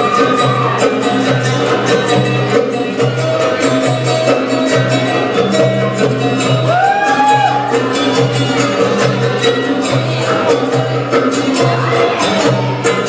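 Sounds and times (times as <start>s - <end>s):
hand drums: 0.0s - 13.0s.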